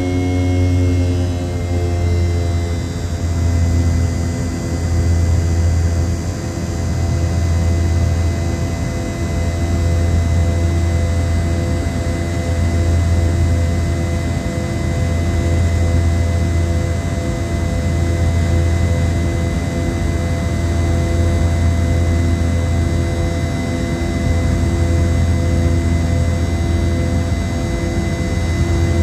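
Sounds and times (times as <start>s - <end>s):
jet engines droning in cabin: 0.0s - 29.0s.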